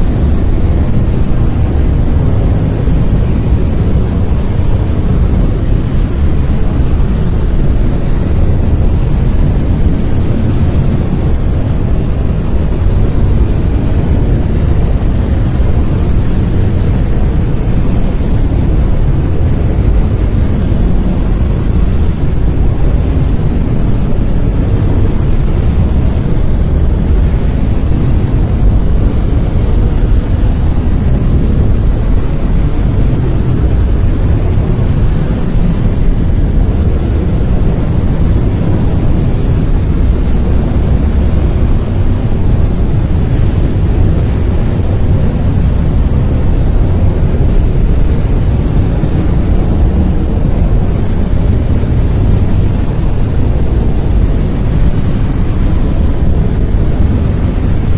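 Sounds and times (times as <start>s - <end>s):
brown noise: 0.0s - 57.9s.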